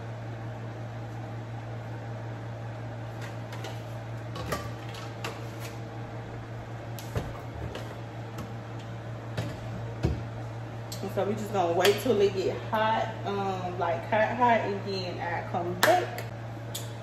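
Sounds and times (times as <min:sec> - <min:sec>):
kitchen fan humming: 0:00.0 - 0:17.0.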